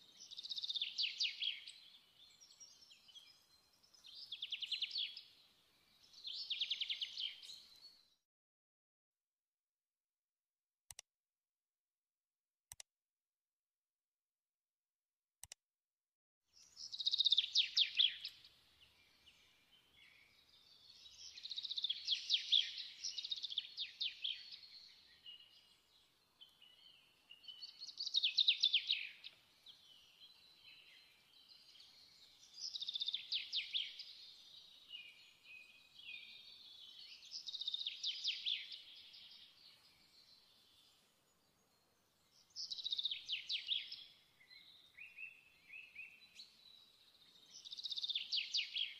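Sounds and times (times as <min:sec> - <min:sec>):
soft bird twittering: 0:00.0 - 0:08.1, 0:16.6 - 0:48.9.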